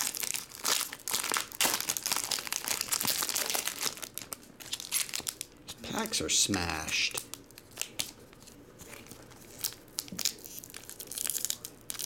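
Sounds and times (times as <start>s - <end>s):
foil pack tearing open: 0.0s - 5.5s, 7.1s - 12.0s
foil wrapper crinkling: 0.0s - 12.0s.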